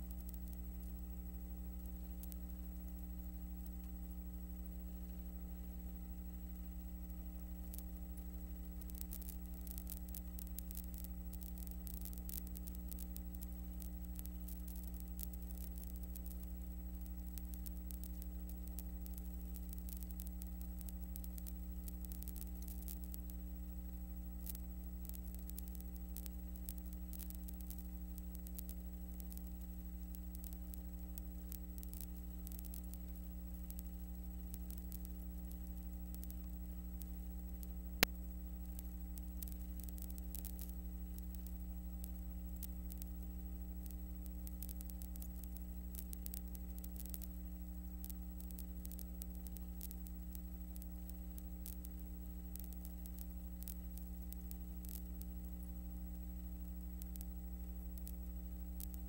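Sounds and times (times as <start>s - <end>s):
low electrical hum: 0.0s - 59.0s
static crackle: 0.0s - 59.0s.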